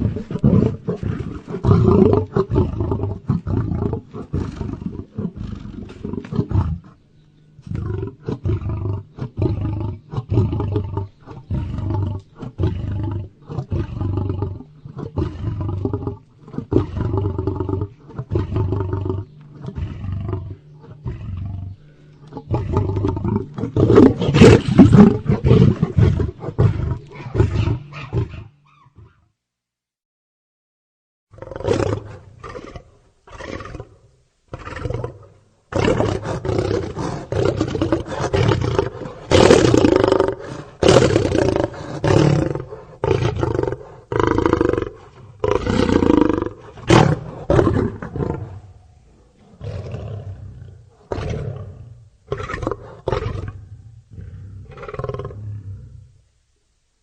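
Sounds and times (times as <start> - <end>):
lion roaring and grunting: 0.0 - 7.0, 7.6 - 29.2, 34.6 - 56.1.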